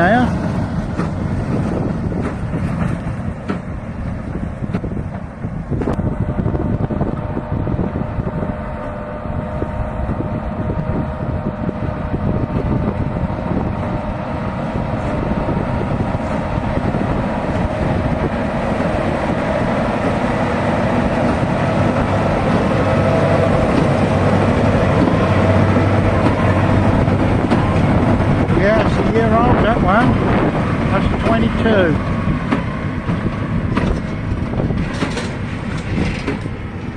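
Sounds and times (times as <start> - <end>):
tractor engine drone: 0.0 - 36.9.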